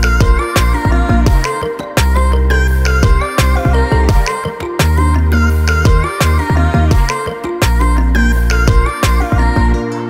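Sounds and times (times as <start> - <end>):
deep held bass: 0.0 - 1.4, 2.0 - 9.8.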